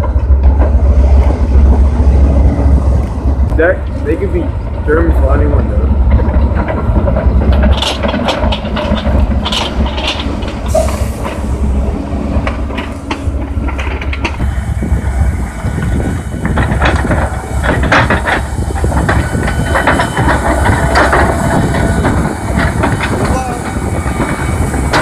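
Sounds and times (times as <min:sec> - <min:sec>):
heavy vehicle engine rumble: 0:00.0 - 0:25.0
rattling and clanking: 0:00.0 - 0:25.0.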